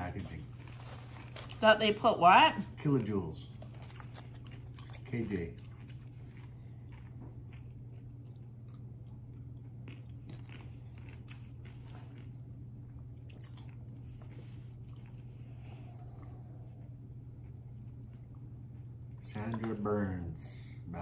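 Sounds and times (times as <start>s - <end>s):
crunching and chewing crisps: 0.0s - 1.7s, 2.7s - 19.3s
steady low hum: 0.0s - 21.0s.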